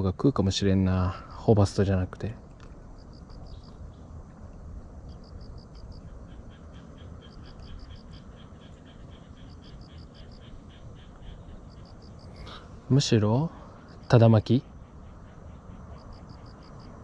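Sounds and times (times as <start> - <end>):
low steady rumble: 0.0 - 17.0
steady insect chirping: 0.0 - 17.0
insects chirping: 0.1 - 17.0.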